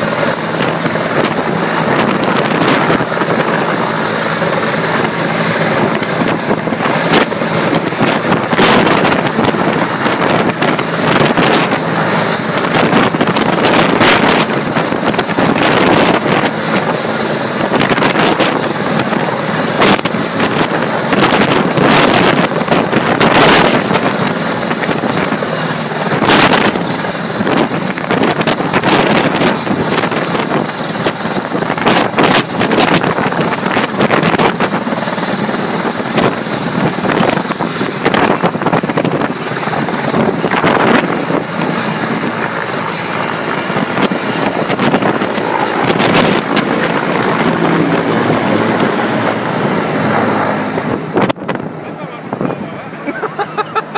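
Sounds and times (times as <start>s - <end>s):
helicopter rotor and engine: 0.0s - 53.9s.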